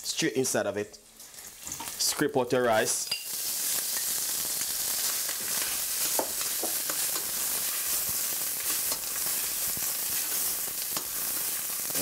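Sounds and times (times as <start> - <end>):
rice sizzling in oil: 1.0 - 12.0.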